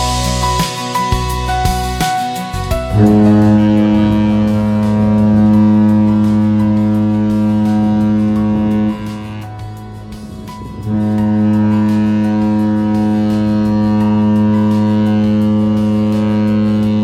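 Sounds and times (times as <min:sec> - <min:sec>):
ship horn deep blast: 0:02.9 - 0:17.0.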